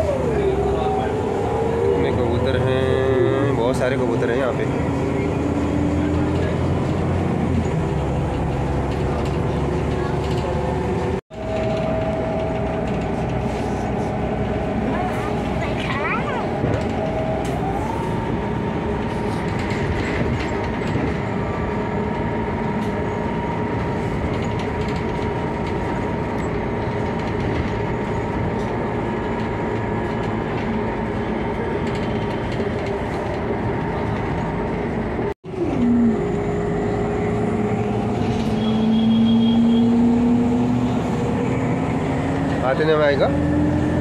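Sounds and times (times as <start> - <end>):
bus engine and road noise: 0.0 - 44.0.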